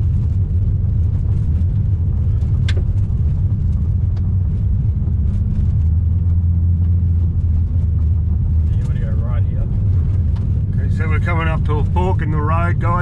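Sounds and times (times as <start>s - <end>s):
engine and tyres rumbling on gravel: 0.0s - 13.0s.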